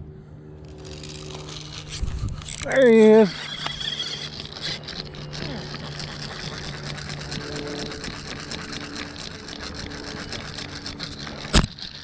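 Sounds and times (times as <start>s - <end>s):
fishing reel whirring: 0.6s - 12.0s.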